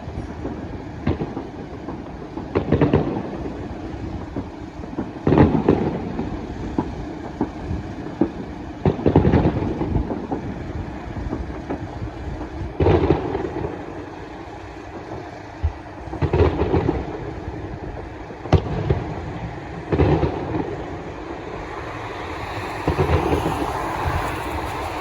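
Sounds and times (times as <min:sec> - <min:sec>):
traffic rumble: 0:00.0 - 0:25.0
fireworks booming: 0:00.1 - 0:25.0
fireworks sharp cracks: 0:00.4 - 0:25.0.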